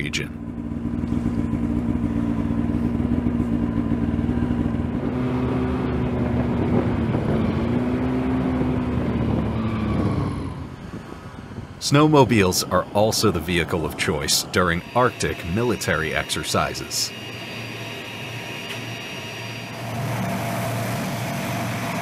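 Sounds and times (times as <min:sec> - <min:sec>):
snowmobile engine running: 0:00.0 - 0:10.7, 0:11.8 - 0:22.0.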